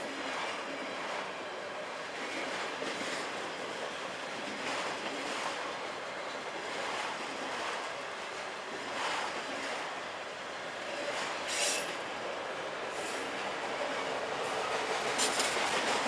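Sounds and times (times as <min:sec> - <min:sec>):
steel wheels rolling on rail: 0:00.0 - 0:16.0.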